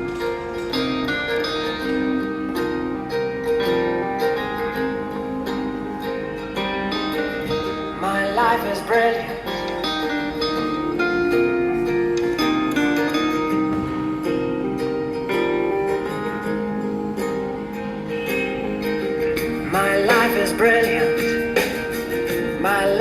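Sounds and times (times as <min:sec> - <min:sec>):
plucked acoustic guitar music: 0:00.0 - 0:23.0.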